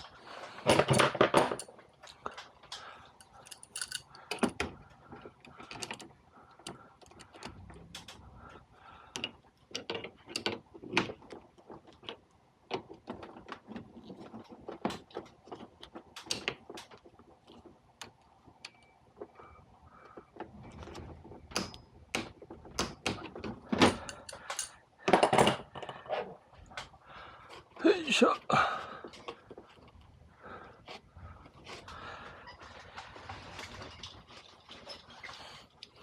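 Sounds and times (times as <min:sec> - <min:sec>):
hand tools clicking and tapping metal: 0:00.0 - 0:20.4, 0:21.4 - 0:30.0.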